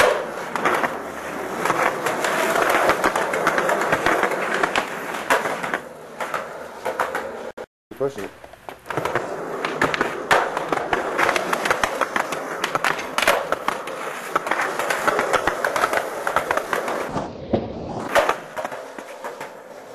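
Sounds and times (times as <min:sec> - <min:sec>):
skateboard wheels rolling on concrete: 0:00.0 - 0:19.9.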